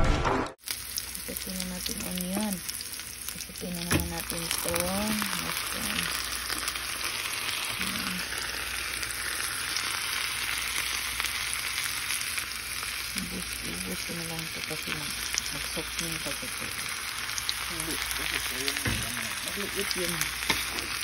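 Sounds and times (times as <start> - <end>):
mushrooms and onions sizzling: 0.6 - 21.0.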